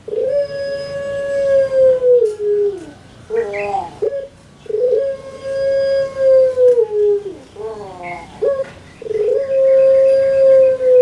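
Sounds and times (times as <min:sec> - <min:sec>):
dove long coo: 0:00.0 - 0:11.0
wavering coo notes: 0:00.0 - 0:11.0.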